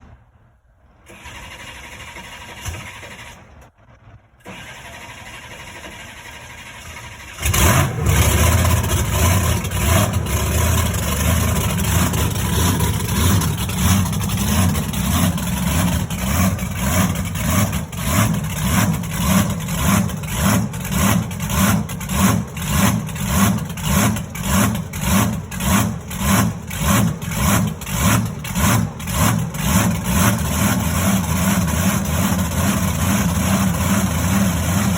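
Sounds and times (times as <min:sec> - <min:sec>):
monster truck engine pulsing: 0:01.0 - 0:34.9.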